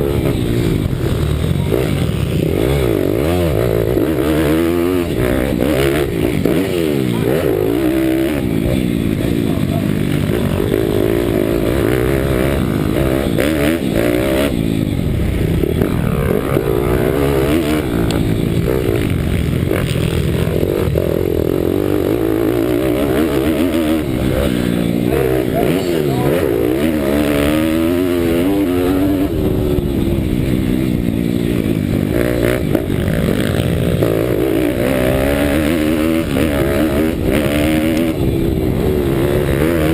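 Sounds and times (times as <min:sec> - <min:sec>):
motorbike engine revving hard: 0:00.0 - 0:39.9.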